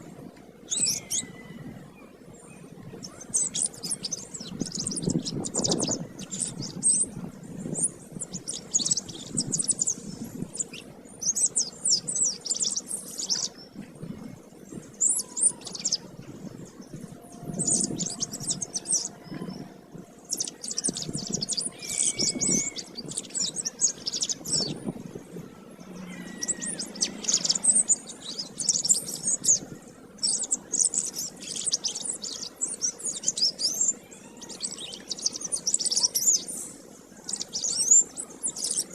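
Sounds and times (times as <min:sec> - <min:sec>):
canary singing trills: 0:00.6 - 0:13.8, 0:14.6 - 0:38.9.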